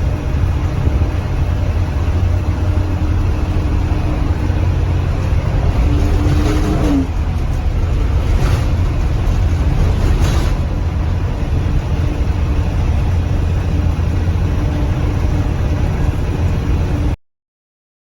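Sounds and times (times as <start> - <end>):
bus engine rumbling: 0.0 - 17.2.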